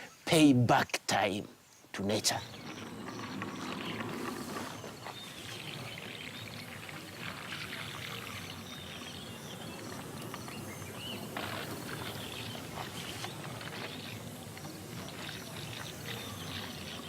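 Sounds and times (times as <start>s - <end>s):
faint insect chirping: 0.0s - 17.0s
steady rushing noise: 2.3s - 17.0s.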